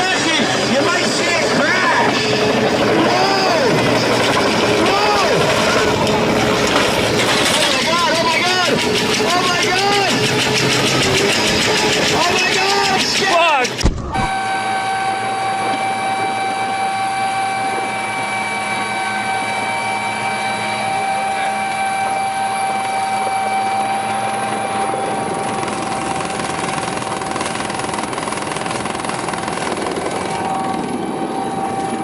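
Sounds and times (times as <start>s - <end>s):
helicopter running: 0.0s - 32.0s.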